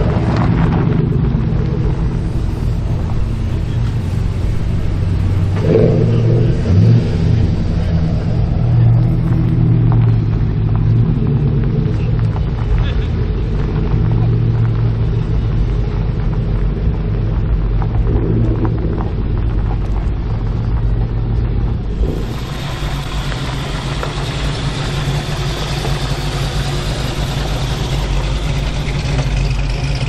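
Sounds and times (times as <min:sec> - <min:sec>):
car engine rumbling: 0:00.0 - 0:30.0.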